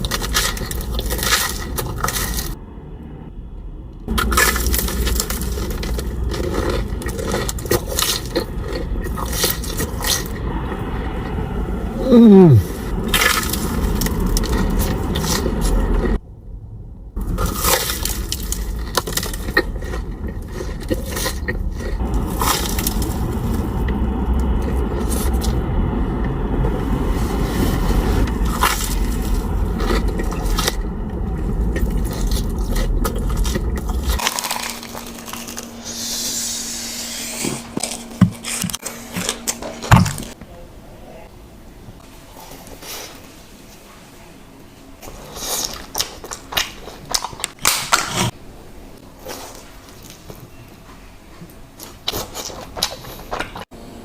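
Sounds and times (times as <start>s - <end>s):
crunching and chewing food: 0.0s - 2.6s, 4.1s - 11.4s, 12.2s - 16.2s, 17.2s - 36.5s, 37.6s - 40.4s, 45.0s - 48.4s, 49.0s - 53.8s.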